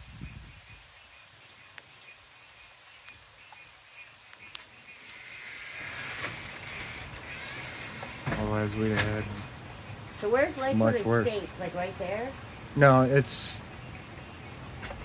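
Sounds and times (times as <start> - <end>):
frogs calling: 0.1 - 15.0
insects calling: 0.1 - 15.0.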